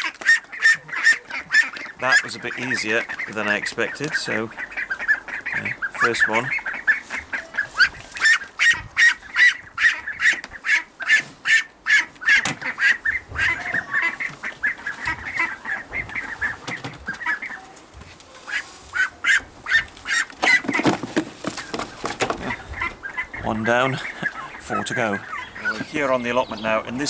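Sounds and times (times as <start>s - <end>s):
ducklings peeping: 0.0s - 27.0s.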